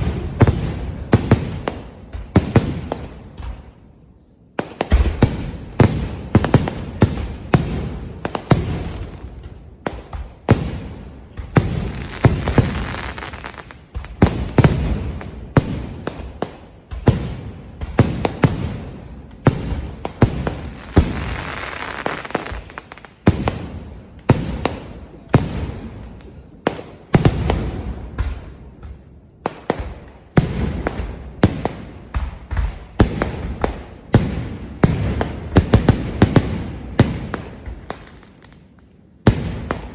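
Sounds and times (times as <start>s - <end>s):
crackling hiss: 0.0s - 28.8s, 29.4s - 39.9s
fireworks bangs: 0.0s - 39.9s.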